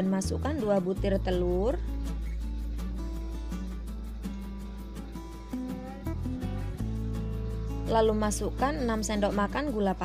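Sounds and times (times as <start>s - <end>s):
instrumental music: 0.4s - 10.0s.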